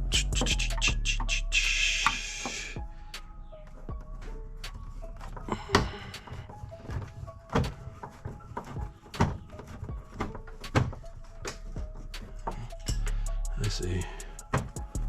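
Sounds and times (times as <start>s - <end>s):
faint music: 0.0s - 15.0s.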